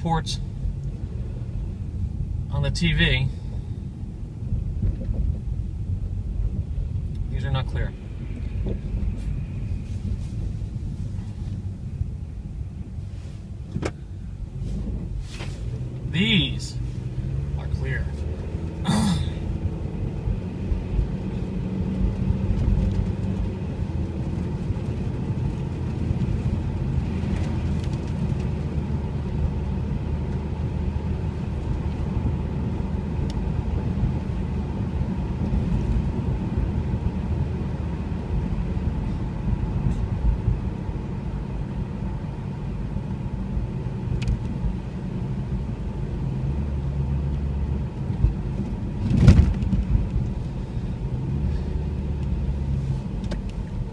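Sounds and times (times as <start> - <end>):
car engine and tyre rumble: 0.0 - 53.9.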